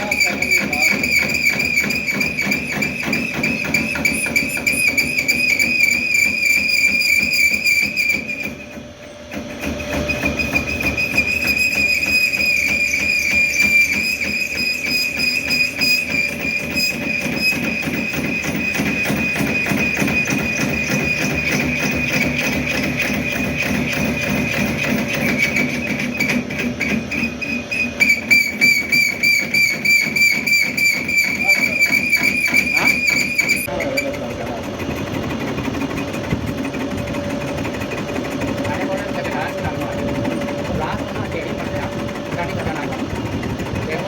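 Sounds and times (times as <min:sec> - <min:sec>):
lathe cutting whine and chatter: 0:00.0 - 0:44.0.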